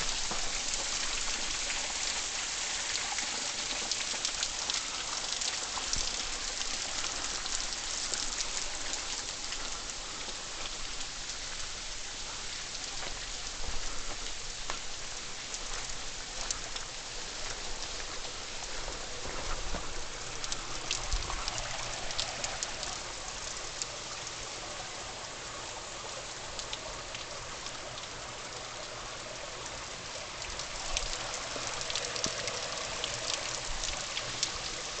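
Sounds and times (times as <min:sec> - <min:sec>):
waterfall hissing: 0:00.0 - 0:35.0.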